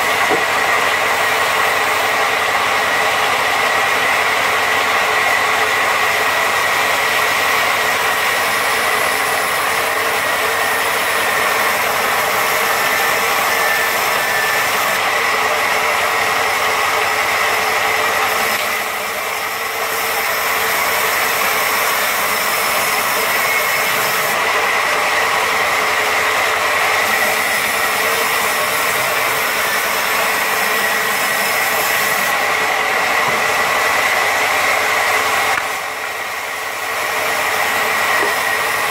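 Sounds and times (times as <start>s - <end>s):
band saw cutting through log: 0.0s - 38.9s.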